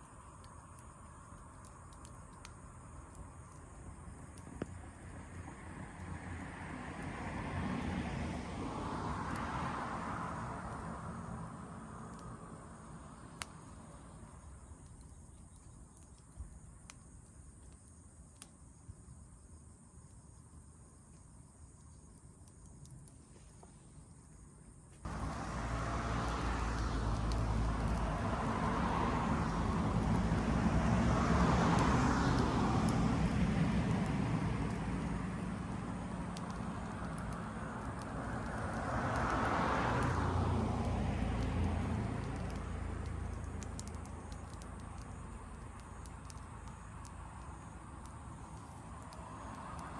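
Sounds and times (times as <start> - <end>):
wood fire crackling: 0.0 - 18.6, 25.0 - 49.9.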